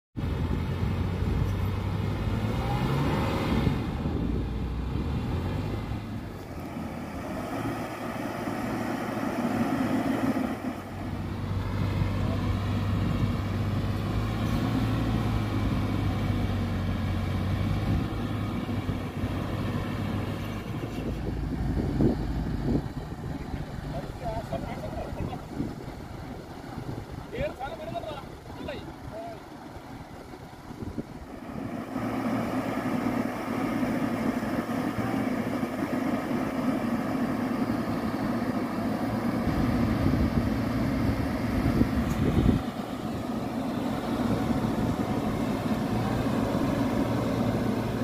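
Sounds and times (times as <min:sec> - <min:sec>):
car engine revving: 0:00.5 - 0:25.7, 0:31.0 - 0:48.0.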